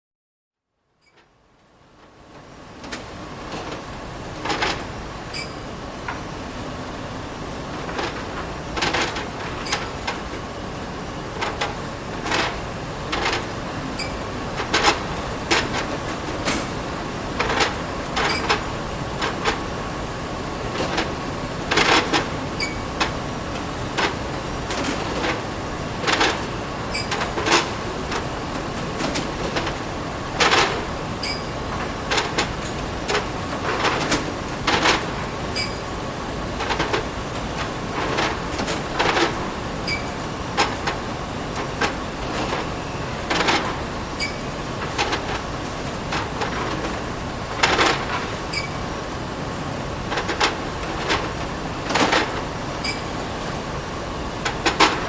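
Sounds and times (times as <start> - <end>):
machine hum: 1.2 - 55.0
machinery clanks and clinks: 2.8 - 55.0.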